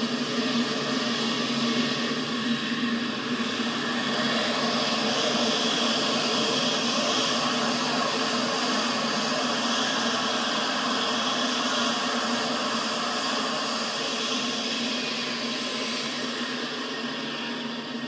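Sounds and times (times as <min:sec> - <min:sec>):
jet engines whining: 0:00.0 - 0:18.0.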